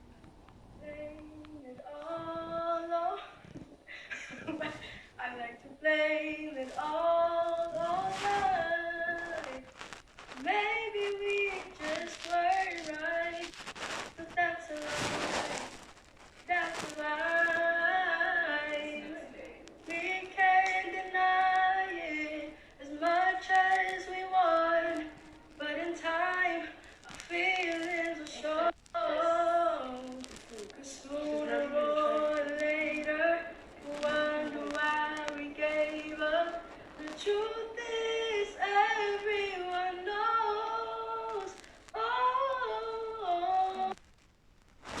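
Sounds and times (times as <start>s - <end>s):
girl singing: 0.8s - 9.7s, 10.3s - 13.6s, 14.2s - 15.8s, 16.4s - 44.0s.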